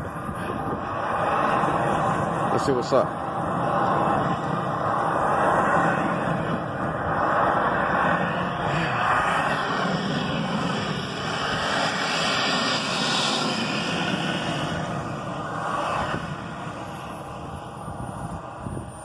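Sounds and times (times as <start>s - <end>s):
model jet turbine whine: 0.0s - 19.0s.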